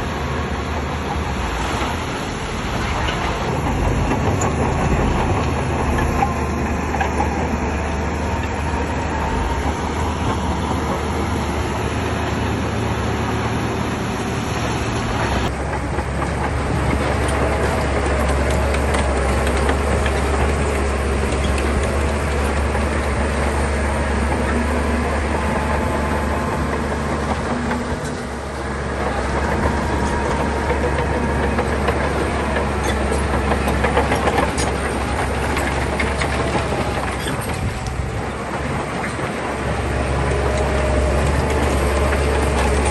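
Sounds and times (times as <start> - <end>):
bulldozer diesel engine: 0.0 - 42.9
steel tracks clanking: 0.0 - 42.9.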